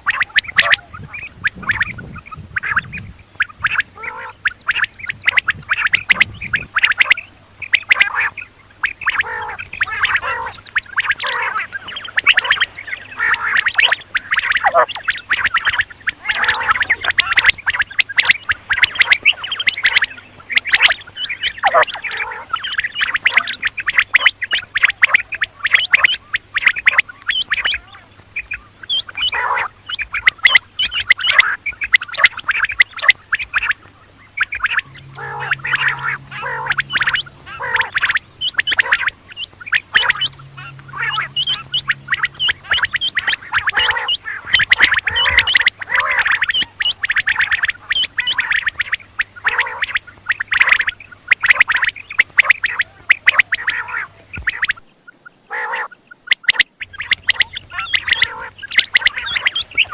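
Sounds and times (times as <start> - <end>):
quail calling: 0.0 - 59.9.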